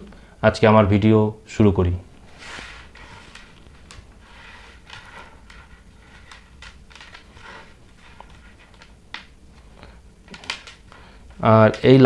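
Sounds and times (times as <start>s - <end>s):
faint rustling: 2.0s - 12.0s.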